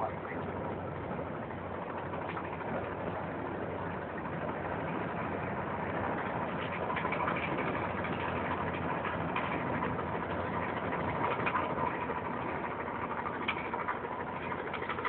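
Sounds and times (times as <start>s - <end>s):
motorboat engines droning: 0.0s - 15.0s.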